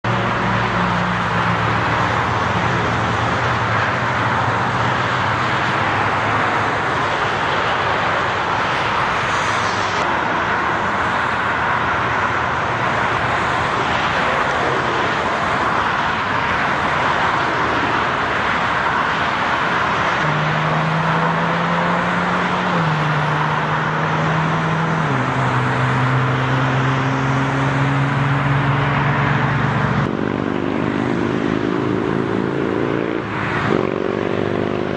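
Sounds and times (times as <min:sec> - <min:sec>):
freeway traffic roar: 0:00.0 - 0:34.9.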